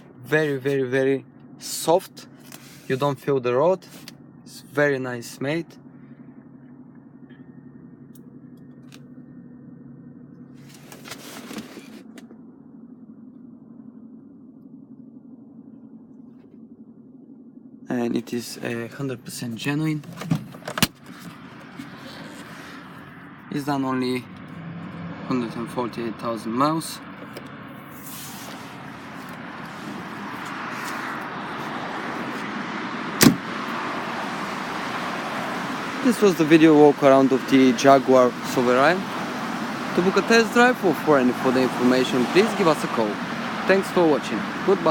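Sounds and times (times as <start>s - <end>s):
car engine idling: 0.0s - 44.9s
road traffic rush: 0.0s - 44.9s.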